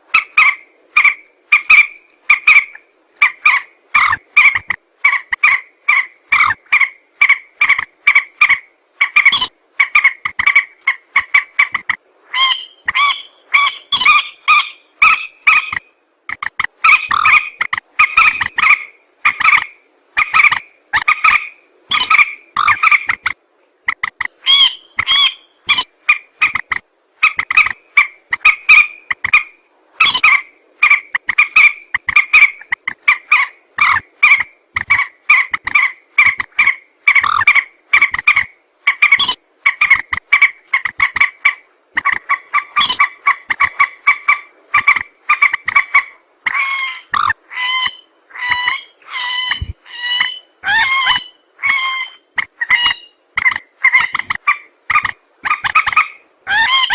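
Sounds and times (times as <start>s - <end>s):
waterbird nasal calls: 0.2s - 56.9s.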